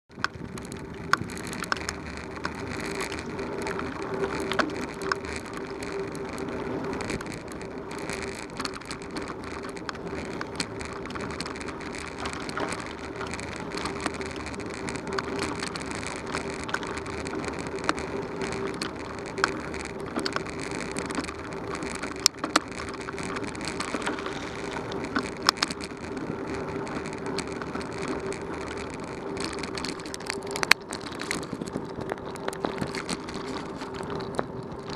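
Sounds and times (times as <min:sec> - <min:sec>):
bicycle tyres crunching on gravel: 0:00.1 - 0:34.9
low hum: 0:00.1 - 0:34.9.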